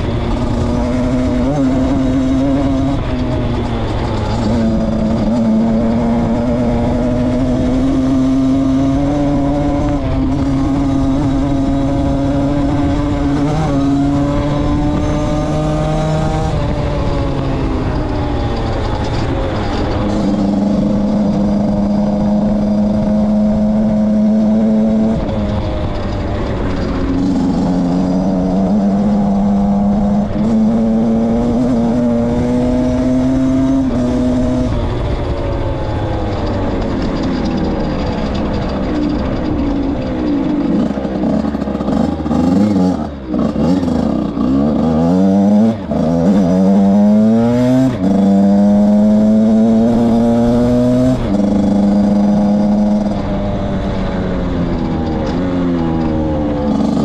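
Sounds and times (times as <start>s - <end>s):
two-stroke motorbike engine revving: 0.0s - 57.0s.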